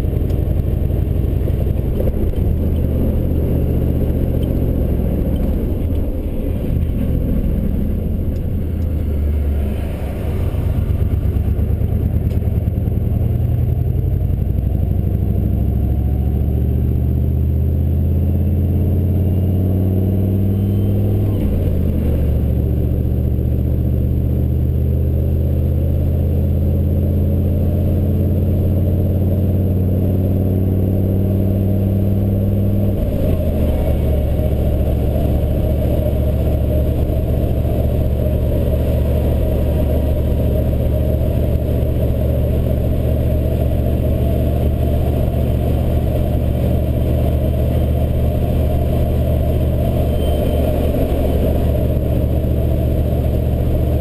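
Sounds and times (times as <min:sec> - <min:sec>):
diesel engine from inside cab: 0:00.0 - 0:54.0.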